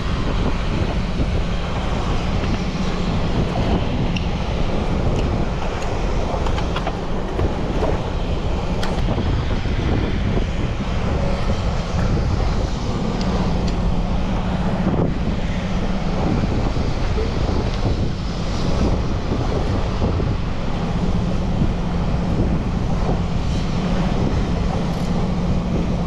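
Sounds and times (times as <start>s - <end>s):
choppy water: 0.0s - 26.0s
constant low hum: 0.0s - 26.0s
wind on microphone: 0.0s - 26.0s.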